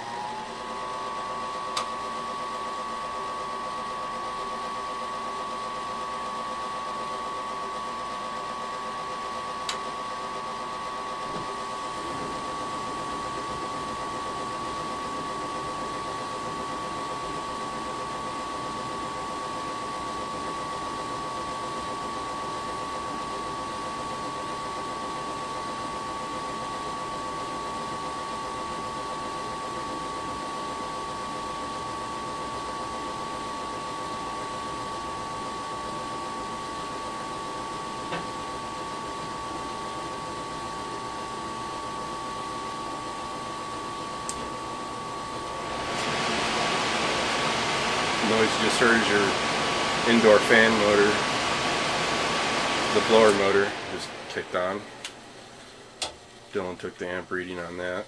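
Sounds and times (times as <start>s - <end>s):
furnace fan motor humming: 0.0s - 58.0s.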